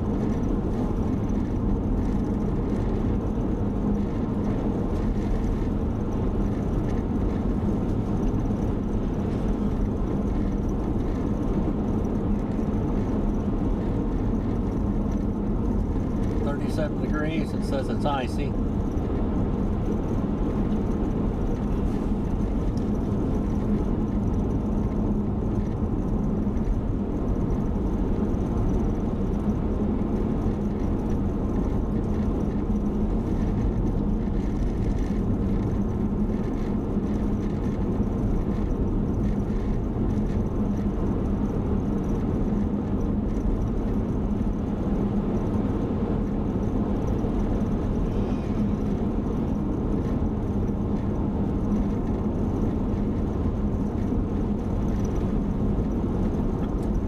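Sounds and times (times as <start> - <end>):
car road and engine noise: 0.0 - 57.0
low steady hum: 0.0 - 57.0.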